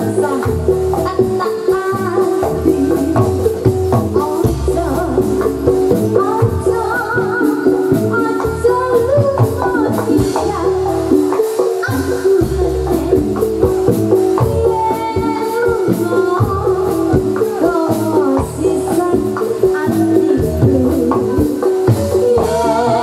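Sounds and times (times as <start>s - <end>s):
drums playing: 0.0s - 23.0s
gamelan music: 0.0s - 23.0s.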